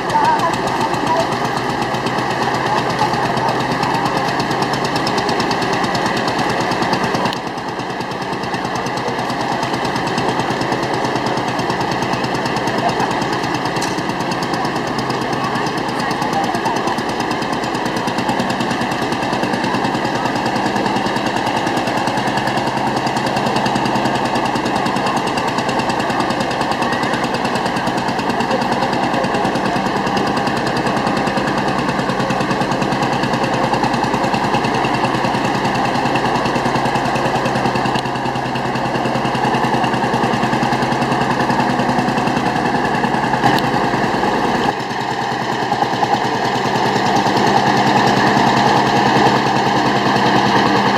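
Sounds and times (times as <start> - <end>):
engine running with fast knocking: 0.0 - 50.9.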